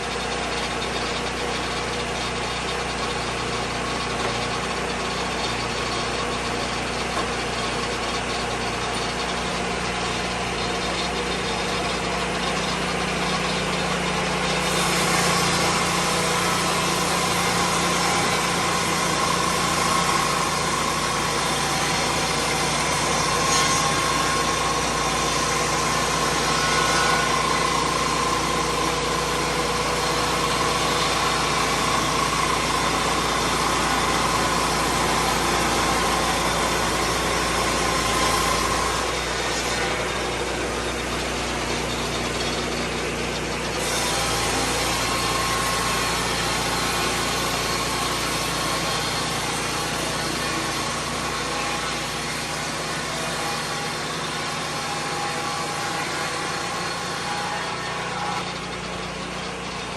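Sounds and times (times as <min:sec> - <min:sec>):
sawmill petrol engine running: 0:00.0 - 0:59.9.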